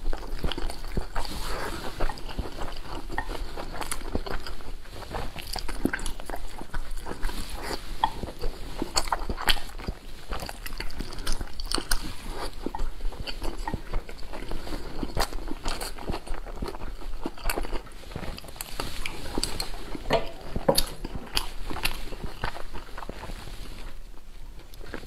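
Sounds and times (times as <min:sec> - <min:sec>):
wet chewing and smacking: 0:00.0 - 0:25.0.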